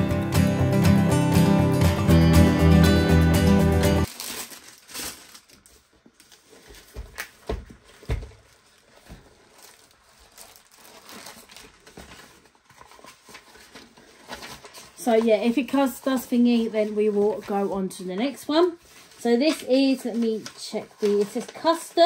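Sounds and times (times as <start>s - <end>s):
plastic and paper crinkling: 4.0s - 22.0s.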